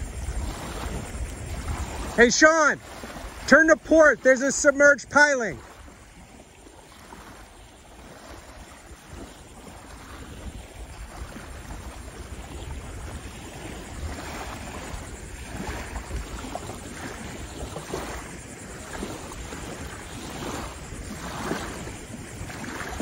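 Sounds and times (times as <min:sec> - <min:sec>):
small waves lapping: 0:00.0 - 0:23.0
wind buffeting microphone: 0:00.0 - 0:23.0.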